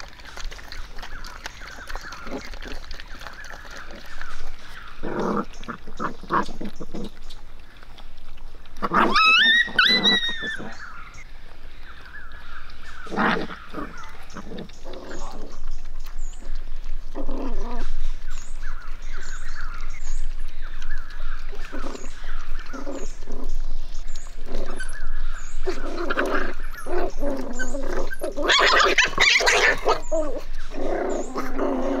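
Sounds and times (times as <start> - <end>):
puppies whining and growling: 0.0 - 11.3, 12.1 - 32.0.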